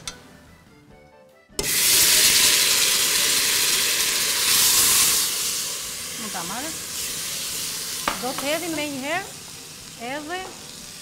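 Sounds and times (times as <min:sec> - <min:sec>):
semolina sizzling in hot oil: 0:01.6 - 0:11.0.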